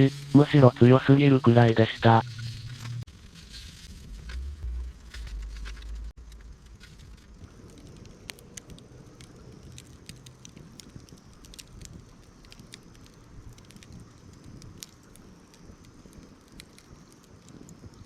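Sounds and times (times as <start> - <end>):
campfire crackling and popping: 0.0 - 18.0
fire low rumble: 0.0 - 18.0.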